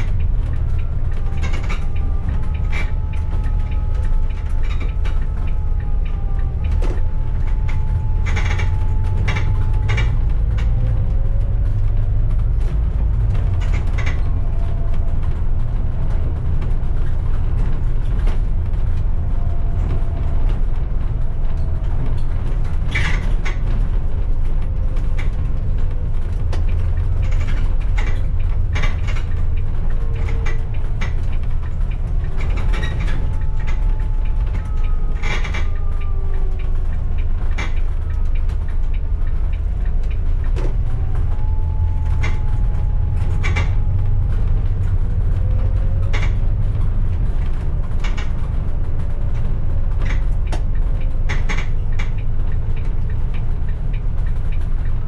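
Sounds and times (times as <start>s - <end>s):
bus engine and road rumble: 0.0s - 55.0s
faint whine: 0.0s - 55.0s
rattles and clicks: 0.0s - 55.0s.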